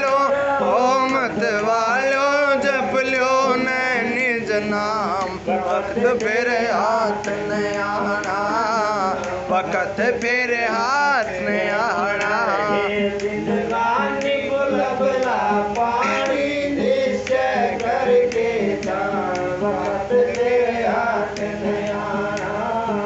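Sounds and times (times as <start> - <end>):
light rhythmic clicks: 0.0 - 23.0
men singing a hymn: 0.0 - 23.0.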